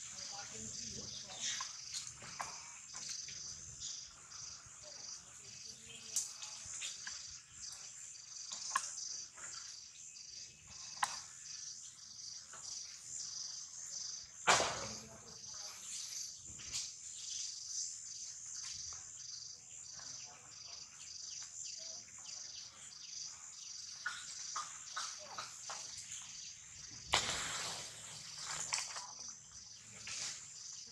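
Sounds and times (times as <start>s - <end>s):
insects chorus buzzing: 0.0s - 30.9s.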